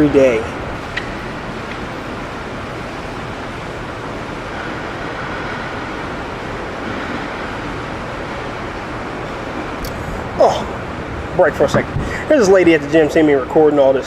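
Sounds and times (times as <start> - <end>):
steady rushing background noise: 0.0 - 14.0.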